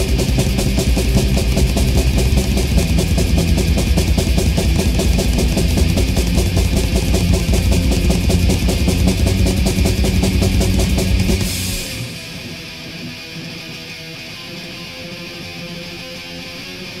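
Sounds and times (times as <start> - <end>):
quiet sparse guitar: 0.0 - 17.0
thrash metal band playing: 0.0 - 17.0.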